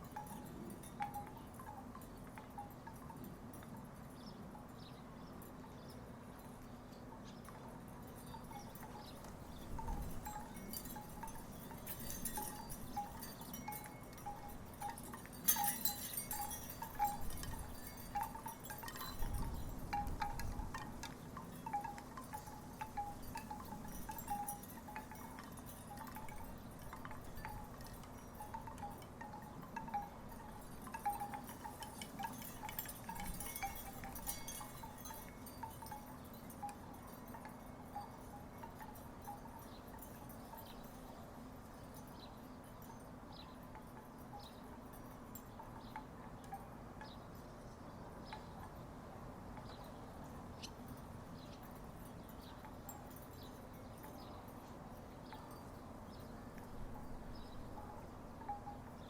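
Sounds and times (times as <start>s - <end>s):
wooden wind chimes clacking: 0.0s - 59.0s.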